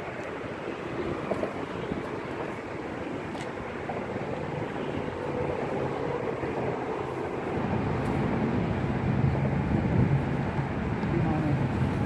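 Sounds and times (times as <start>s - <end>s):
passing traffic engine hum: 0.0s - 12.0s.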